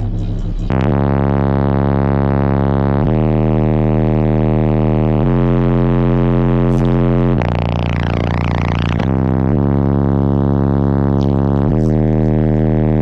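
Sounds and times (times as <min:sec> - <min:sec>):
subwoofer playing deep bass: 0:00.0 - 0:13.0.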